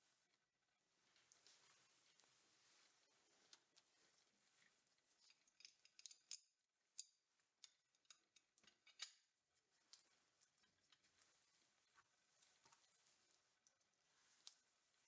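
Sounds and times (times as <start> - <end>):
faint clicks and light taps: 0.2 - 15.0.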